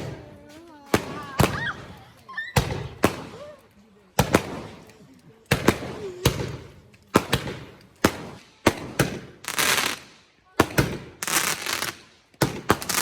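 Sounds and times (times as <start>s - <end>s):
fireworks bangs: 0.0s - 3.6s, 4.2s - 4.9s, 5.5s - 13.0s
fireworks crackling: 0.0s - 13.0s.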